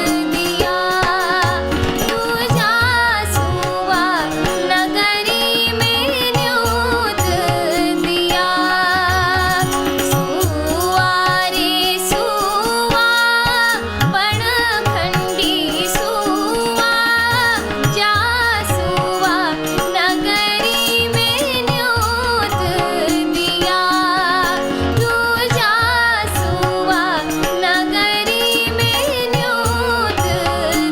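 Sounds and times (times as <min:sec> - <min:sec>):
woman singing folk song: 0:00.0 - 0:30.9.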